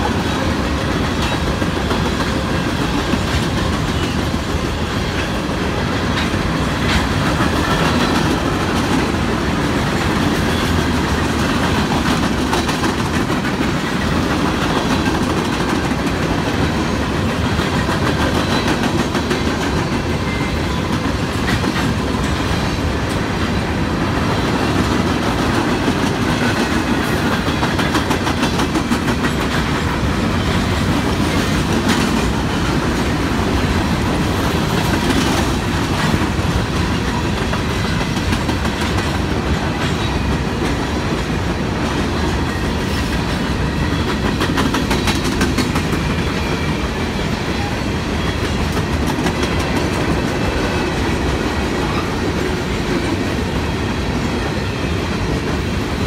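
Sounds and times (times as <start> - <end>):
freight train rumble: 0.0 - 56.0
wheels clacking over rail joints: 0.0 - 56.0.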